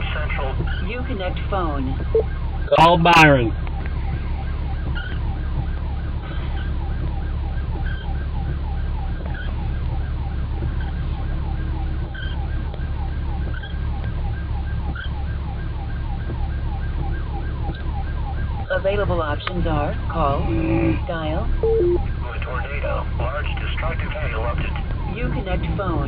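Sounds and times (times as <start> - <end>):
car cabin road rumble: 0.0 - 26.0
siren on a fast yelp: 0.0 - 26.0.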